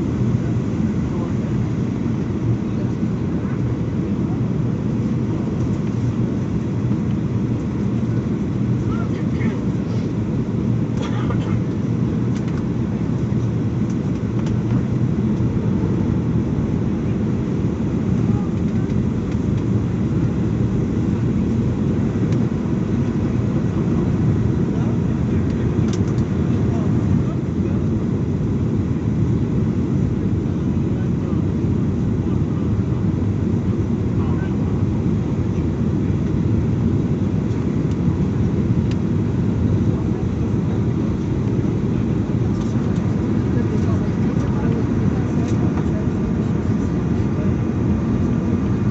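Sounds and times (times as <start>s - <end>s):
jet engine roar in cabin: 0.0s - 48.9s.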